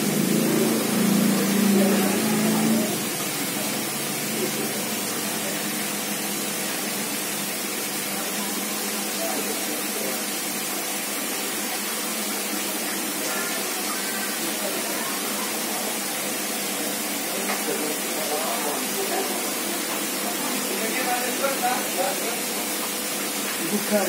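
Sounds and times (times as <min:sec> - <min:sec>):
aquarium water rushing: 0:00.0 - 0:24.0.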